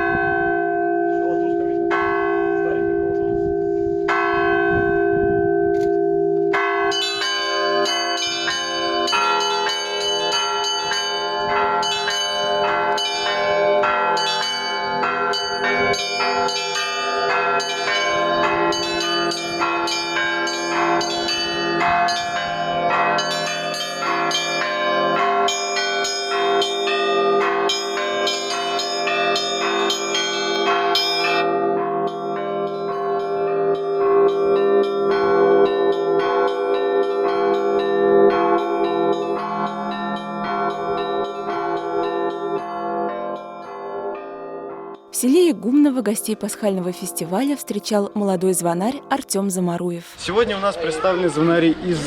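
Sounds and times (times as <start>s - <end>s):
large church bells ringing: 0.0s - 49.4s.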